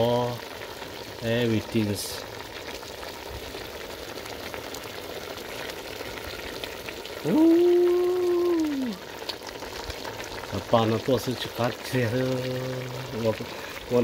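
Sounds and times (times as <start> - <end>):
pot sizzling and bubbling: 0.0 - 14.0.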